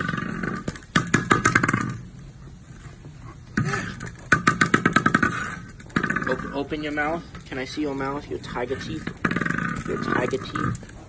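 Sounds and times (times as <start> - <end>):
tiger growling: 0.0 - 11.0.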